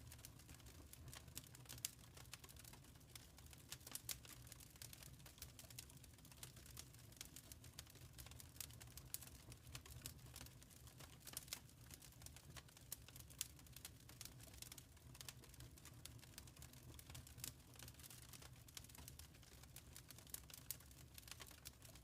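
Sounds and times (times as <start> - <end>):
low rumble of burning fire: 0.0 - 22.0
wood fire crackling and popping: 0.0 - 22.0.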